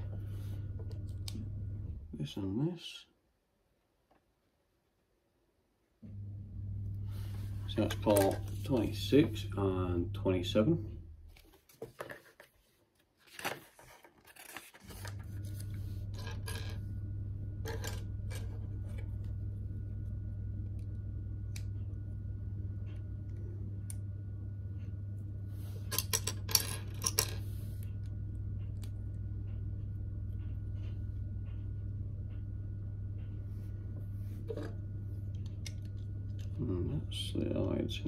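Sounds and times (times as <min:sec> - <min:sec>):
steady low hum: 0:00.0 - 0:03.8, 0:05.1 - 0:12.4, 0:14.4 - 0:38.0.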